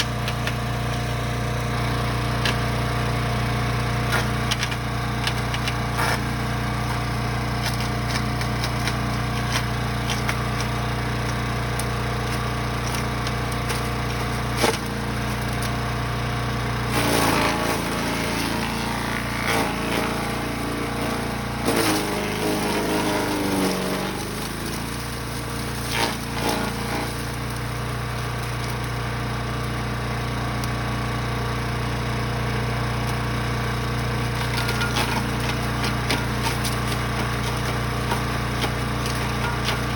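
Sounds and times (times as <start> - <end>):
wood chipper engine running: 0.0 - 39.9
wood knocking and cracking in chipper: 0.0 - 39.9.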